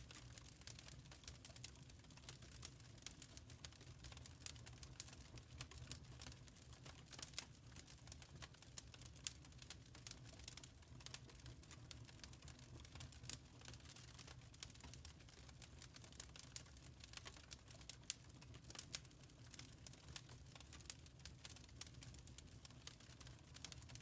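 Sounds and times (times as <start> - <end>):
wood fire crackling quietly: 0.0 - 24.0.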